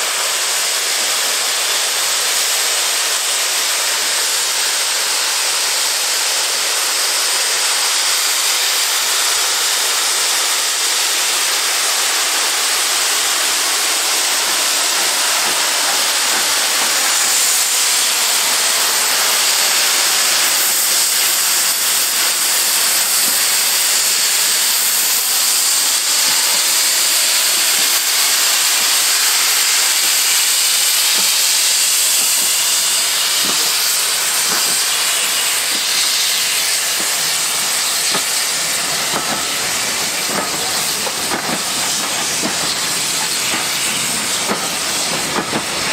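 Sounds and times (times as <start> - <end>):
steam locomotive hissing: 0.0 - 45.9.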